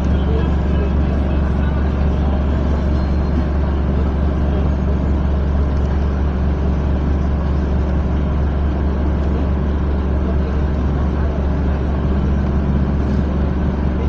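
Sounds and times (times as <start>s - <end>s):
diesel engine drone: 0.0s - 14.0s
road noise: 0.0s - 14.0s.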